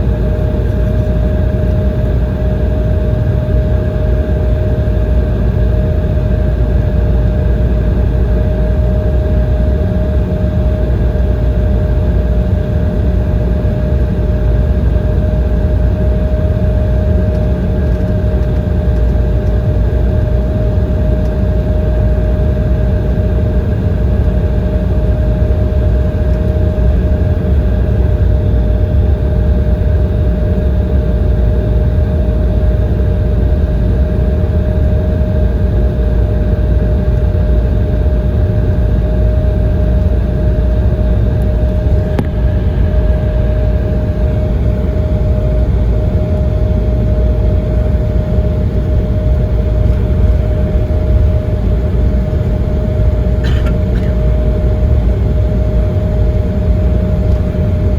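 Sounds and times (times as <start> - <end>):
airliner cabin rumble: 0.0 - 57.9
jet engine whine: 0.0 - 57.9.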